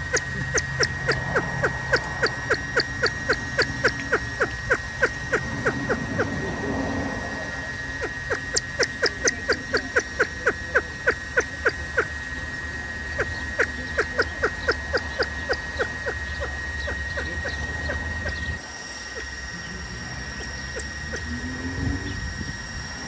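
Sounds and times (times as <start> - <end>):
pheasant clucking calls: 0.0 - 6.7, 7.4 - 19.7, 20.3 - 21.3.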